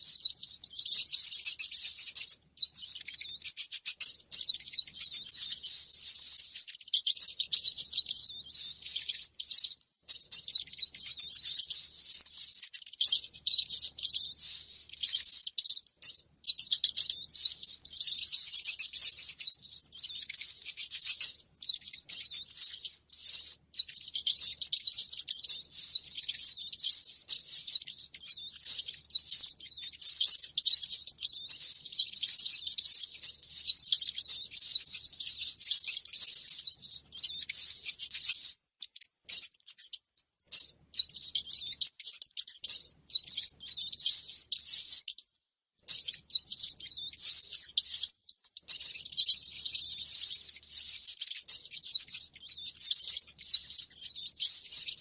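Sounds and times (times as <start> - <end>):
rats squeaking: 0.0 - 55.0.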